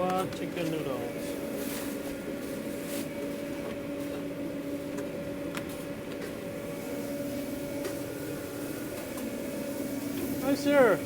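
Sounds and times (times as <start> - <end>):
mechanical hum of kitchen equipment: 0.0 - 11.0.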